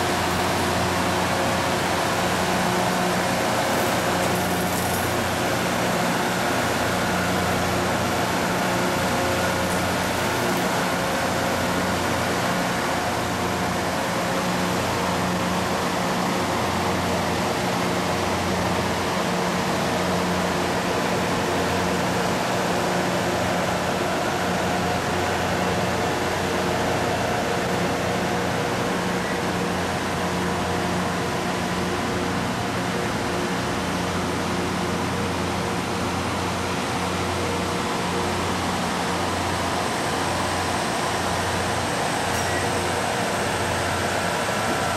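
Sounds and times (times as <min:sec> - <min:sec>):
diesel engines droning: 0:00.0 - 0:44.9.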